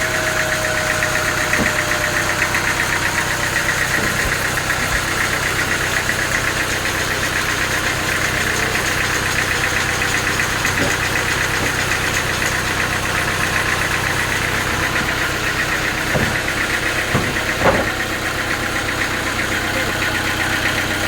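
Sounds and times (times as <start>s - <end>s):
sawmill machine drone: 0.0s - 21.0s.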